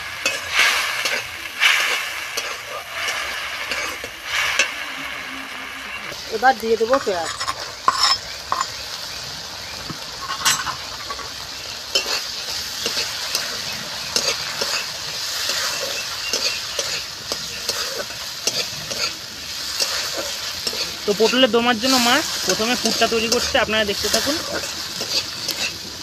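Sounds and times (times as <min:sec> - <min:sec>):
spatula scraping a wok: 0:00.0 - 0:06.2, 0:06.8 - 0:08.9, 0:10.2 - 0:26.0
shrimp sizzling in oil: 0:00.0 - 0:26.0.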